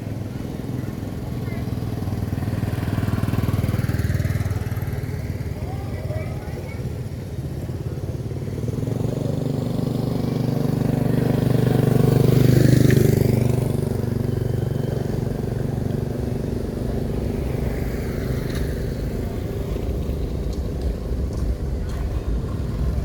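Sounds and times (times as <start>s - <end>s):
vehicle engine passing: 0.0s - 23.0s.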